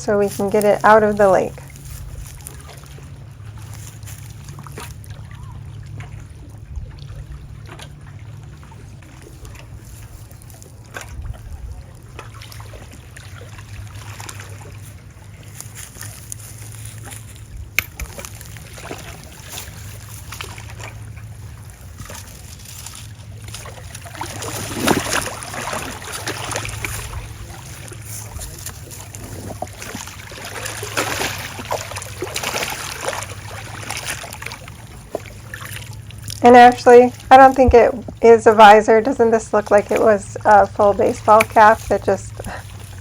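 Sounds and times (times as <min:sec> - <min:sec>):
water sloshing and trickling: 0:00.0 - 0:43.0
water splashing: 0:00.0 - 0:43.0.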